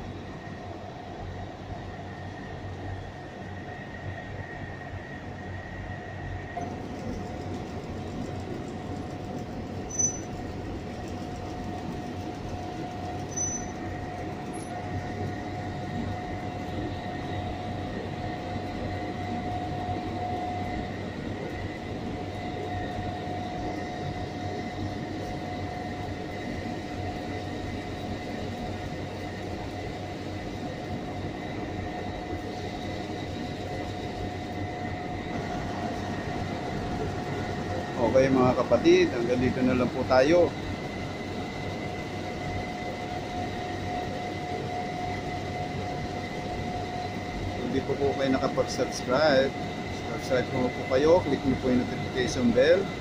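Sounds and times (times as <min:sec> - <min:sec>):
mechanical drone: 0:06.5 - 0:53.0.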